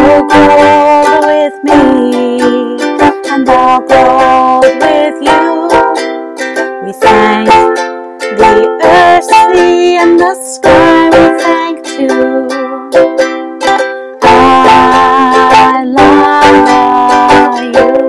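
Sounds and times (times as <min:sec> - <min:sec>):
ukulele strummed in chords: 0:00.0 - 0:18.0
woman singing with vibrato: 0:00.0 - 0:18.0.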